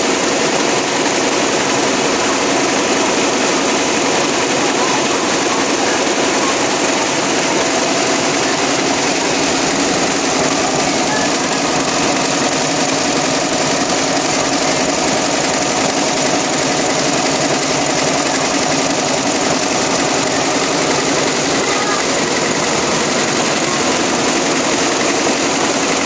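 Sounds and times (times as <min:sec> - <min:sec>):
quilting machine stitching: 0:00.0 - 0:26.0.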